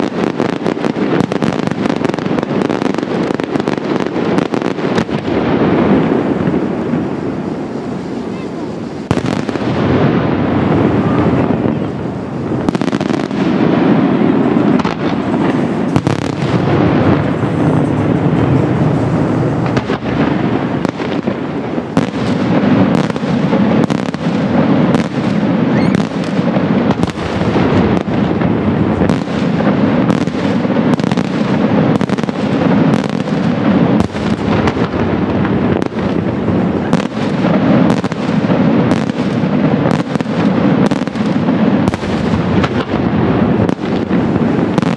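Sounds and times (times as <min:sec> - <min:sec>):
fireworks bangs: 0:00.0 - 0:44.9
rumble of explosions: 0:00.0 - 0:44.9.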